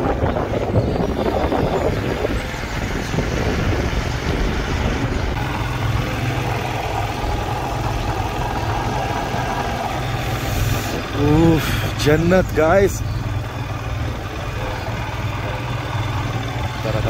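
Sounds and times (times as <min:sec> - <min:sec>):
motorcycle engine droning: 0:00.0 - 0:17.0.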